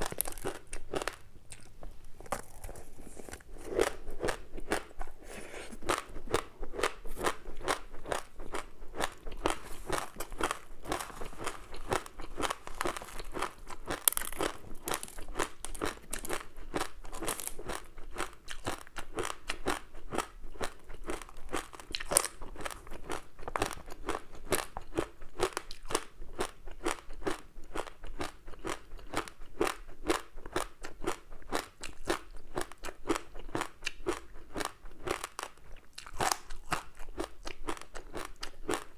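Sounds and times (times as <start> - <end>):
crunching and chewing crispy snack: 0.0 - 38.9.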